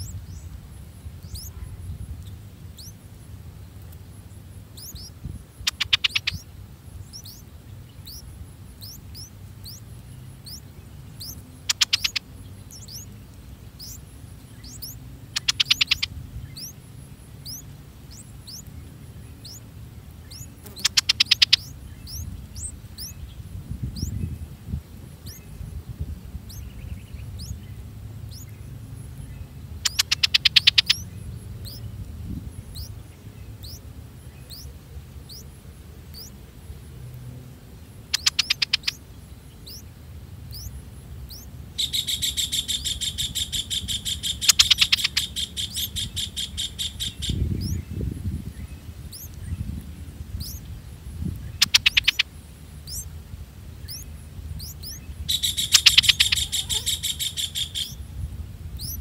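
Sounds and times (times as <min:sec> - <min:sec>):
nestlings chirping: 0:00.0 - 0:36.4, 0:38.0 - 0:53.1, 0:53.7 - 0:58.0, 0:58.7 - 0:59.0.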